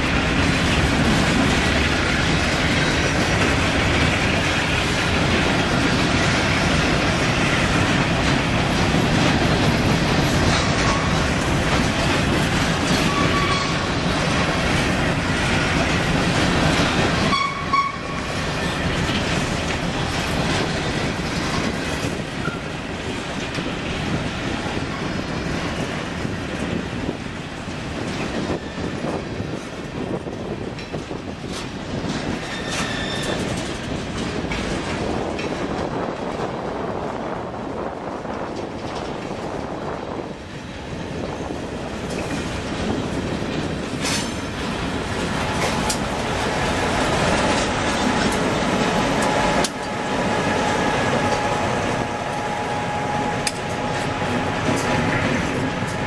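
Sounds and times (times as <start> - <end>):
diesel locomotive running: 0.0 - 56.0
wheels clattering over rail joints: 0.0 - 56.0.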